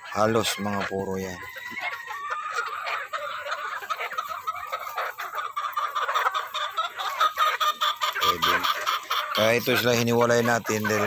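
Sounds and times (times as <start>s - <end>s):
chickens chirping and clucking: 0.0s - 11.0s.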